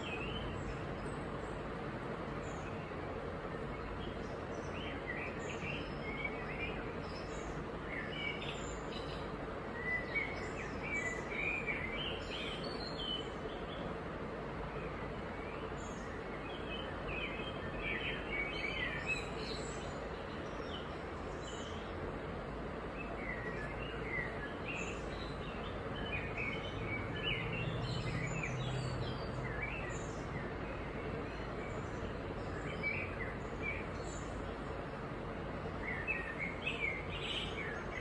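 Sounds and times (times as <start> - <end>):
birds chirping: 0.0 - 38.0
steady background hiss: 0.0 - 38.0.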